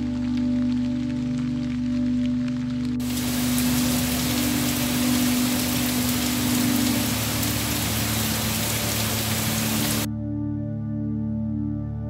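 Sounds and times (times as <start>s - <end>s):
heavy rain on foliage: 0.0s - 10.1s
ambient music drone: 0.0s - 12.0s.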